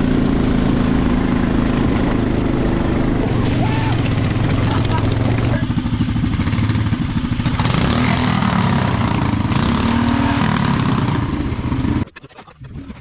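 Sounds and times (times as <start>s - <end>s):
small engine running hard: 0.0s - 12.1s.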